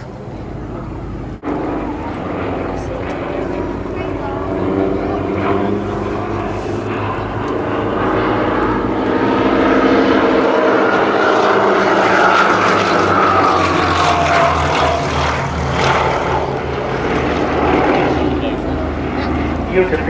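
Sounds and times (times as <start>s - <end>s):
high engine whine: 0.0s - 20.0s
propeller planes droning: 0.0s - 20.0s.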